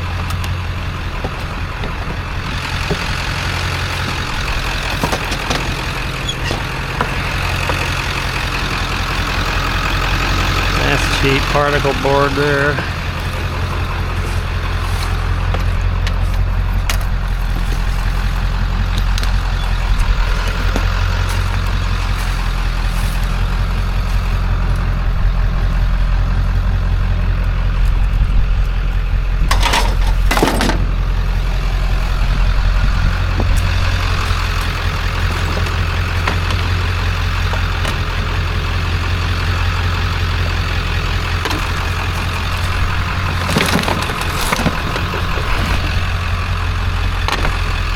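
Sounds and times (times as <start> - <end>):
truck engine humming: 0.0 - 47.9.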